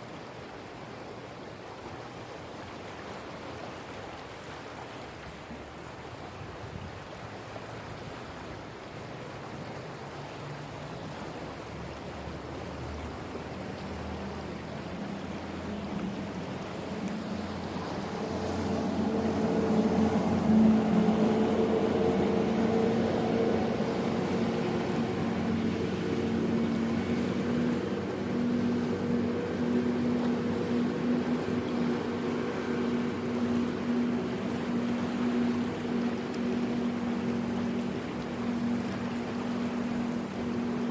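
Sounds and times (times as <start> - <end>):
sea waves washing on shore: 0.0 - 40.9
boat engine drone: 0.1 - 40.9.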